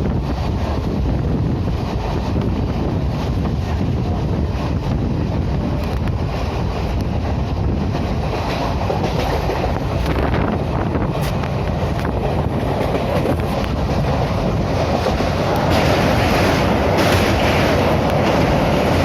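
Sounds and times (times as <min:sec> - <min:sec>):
train wheels rumbling on track: 0:00.0 - 0:19.0
wind on microphone: 0:00.0 - 0:19.0.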